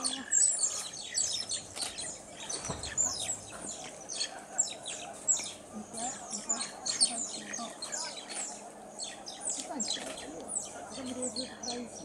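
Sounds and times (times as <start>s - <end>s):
mongooses chattering: 0.0s - 12.0s.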